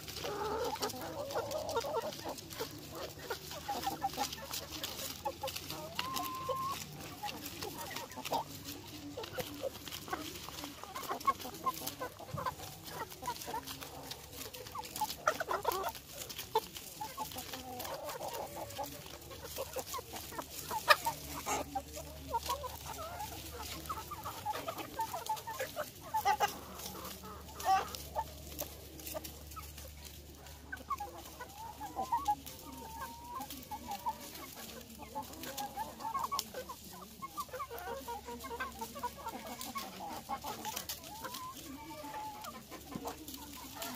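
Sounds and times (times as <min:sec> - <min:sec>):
chickens clucking: 0:00.0 - 0:43.9
clicks among dry leaves: 0:00.0 - 0:43.9.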